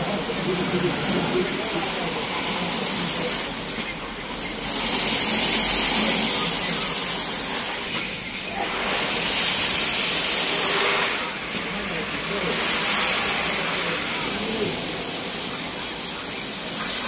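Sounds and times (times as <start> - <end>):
car wash brushes spinning: 0.0 - 17.0
car wash water spray hissing: 0.0 - 17.0.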